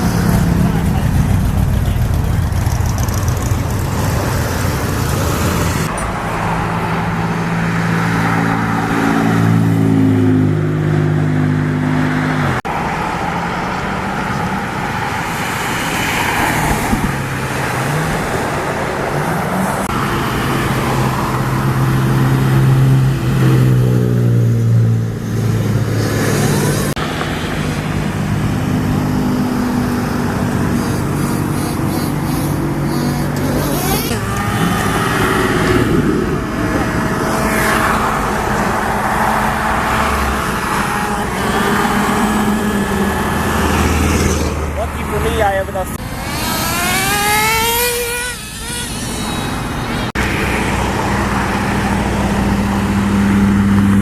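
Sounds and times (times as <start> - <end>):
sports car engines revving: 0.0 - 54.0.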